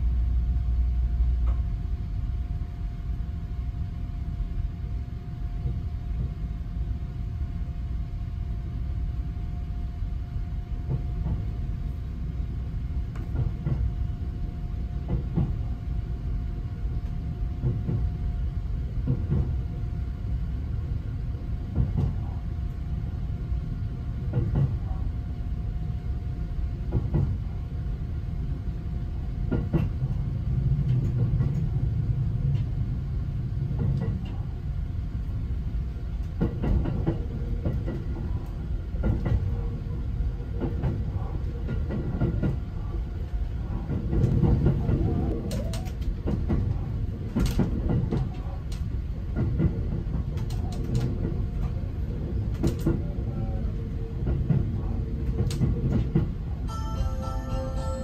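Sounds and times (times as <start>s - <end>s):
train wheels rumbling on rails: 0.0s - 56.7s.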